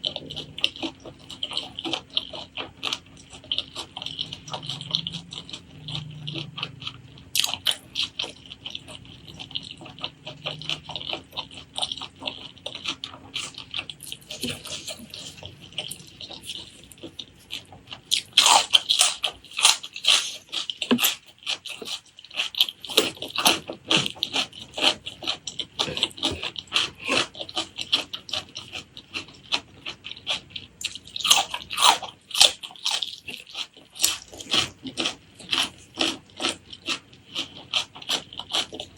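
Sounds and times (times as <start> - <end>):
wet chewing mouth clicks: 0.0 - 38.9.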